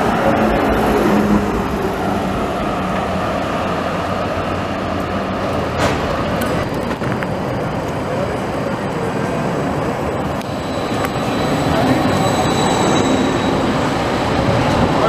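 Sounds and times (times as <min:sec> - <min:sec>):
tram wheels on rails: 0:00.0 - 0:15.0.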